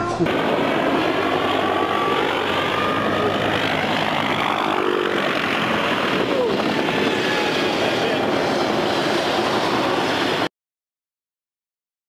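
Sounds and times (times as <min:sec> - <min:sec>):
aircraft engines rushing: 0:00.0 - 0:10.5.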